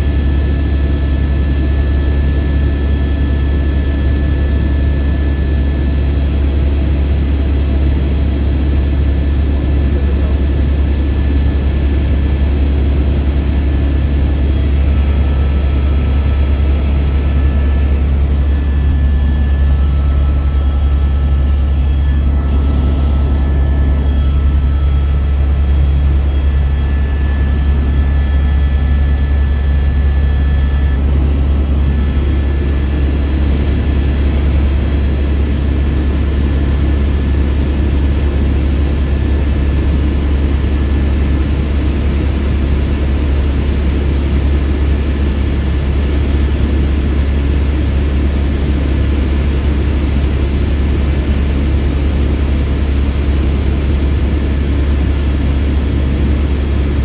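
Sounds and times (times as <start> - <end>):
helicopter rotor drone in cabin: 0.0 - 57.0.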